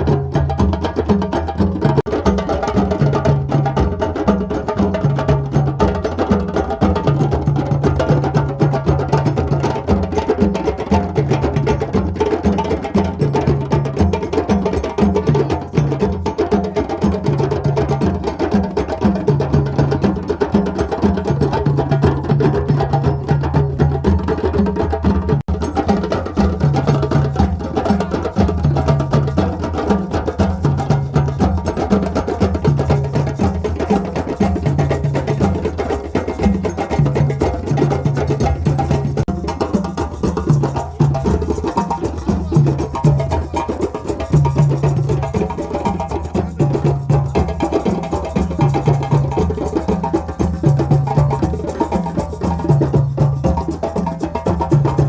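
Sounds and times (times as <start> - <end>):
drums playing fast rhythm: 0.0 - 55.0.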